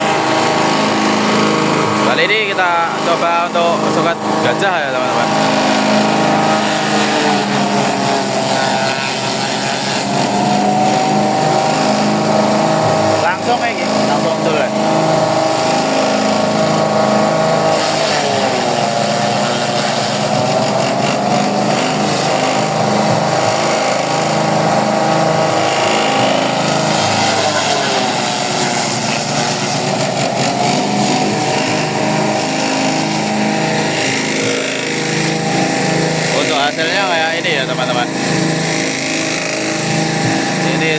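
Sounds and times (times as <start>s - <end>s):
forage chopper engine running: 0.0s - 40.9s.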